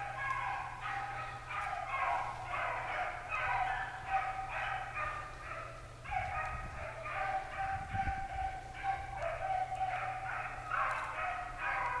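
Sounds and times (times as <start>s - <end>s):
hounds baying in chorus: 0.0s - 12.0s.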